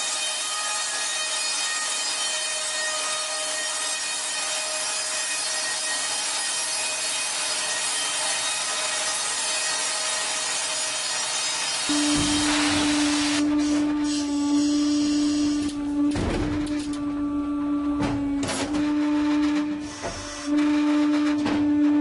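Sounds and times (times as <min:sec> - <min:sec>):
saw cutting wood: 0:00.0 - 0:22.0.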